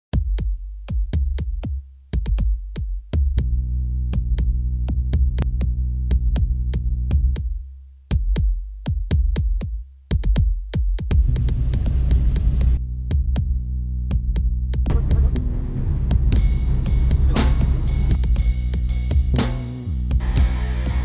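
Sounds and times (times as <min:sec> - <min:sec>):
deep bass line: 0:00.1 - 0:21.0
fast drum machine beat: 0:00.2 - 0:03.6, 0:04.2 - 0:15.5, 0:16.1 - 0:21.0.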